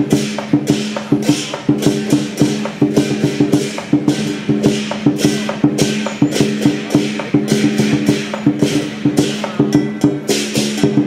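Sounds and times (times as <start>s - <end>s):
cymbal clashes: 0.0s - 11.0s
drum beaten fast: 0.0s - 11.0s.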